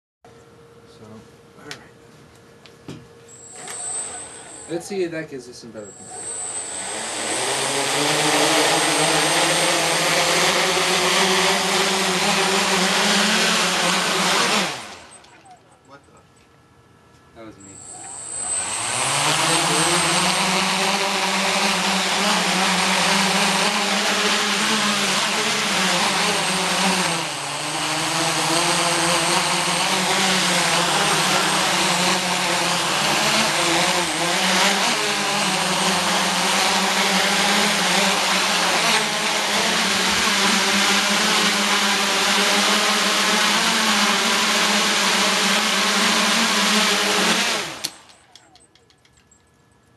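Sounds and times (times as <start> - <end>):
quadcopter propellers whirring: 2.9 - 16.2, 17.4 - 49.2.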